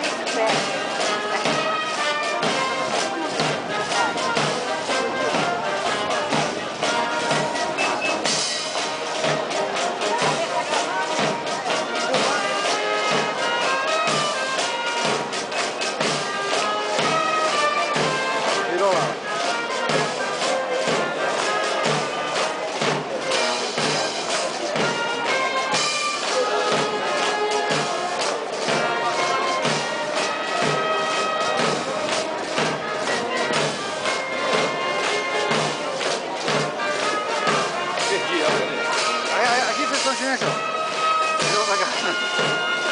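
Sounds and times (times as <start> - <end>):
bass drum beating: 0.0 - 42.9
brass band playing a march: 0.0 - 42.9.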